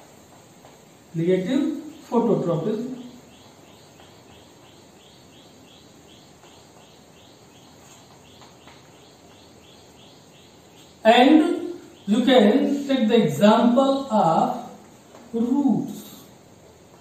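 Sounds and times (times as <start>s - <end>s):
cricket chirping: 0.0s - 14.7s.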